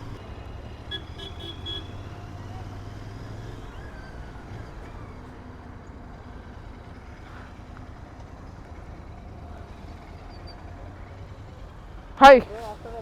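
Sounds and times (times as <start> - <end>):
city traffic noise: 0.0 - 13.0
motorcycle engine idling: 0.0 - 13.0.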